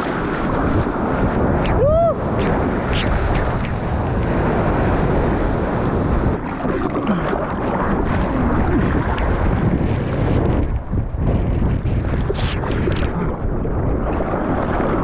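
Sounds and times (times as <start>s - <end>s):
churning whitewater splashing: 0.0s - 15.0s
wind noise on microphone: 0.0s - 15.0s.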